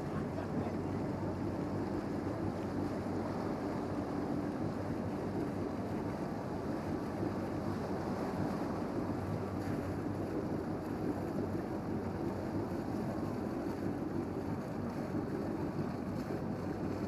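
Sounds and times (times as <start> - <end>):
ship engines droning: 0.0 - 17.0.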